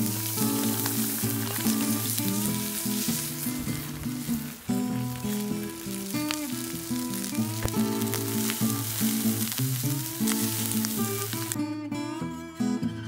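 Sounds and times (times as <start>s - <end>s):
rice sizzling in a hot pan: 0.0s - 11.6s.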